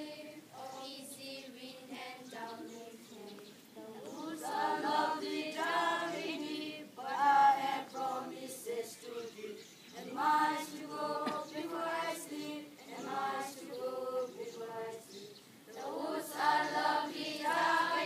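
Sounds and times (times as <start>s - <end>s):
group singing in unison: 0.0s - 18.0s.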